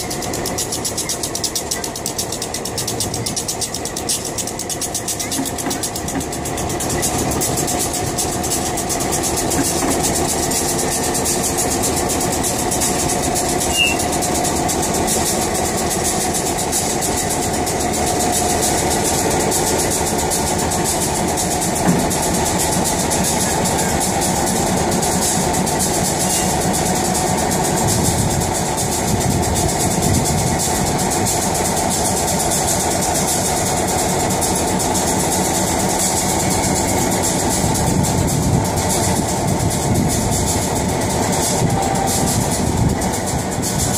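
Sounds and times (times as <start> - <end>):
diesel locomotive engine idling: 0.0 - 43.9.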